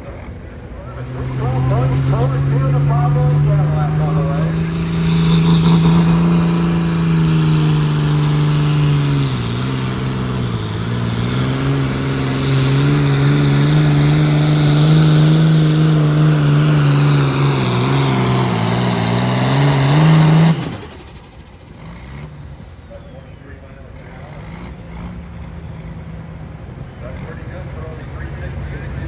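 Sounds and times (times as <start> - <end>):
pulling machine engine at full throttle: 0.0 - 29.0.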